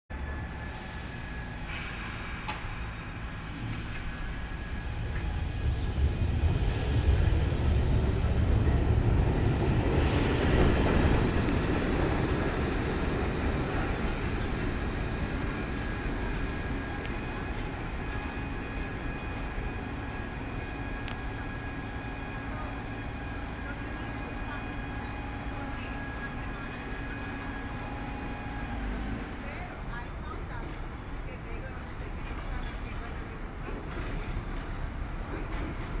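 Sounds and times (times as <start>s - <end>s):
subway train rumbling: 0.1s - 36.0s.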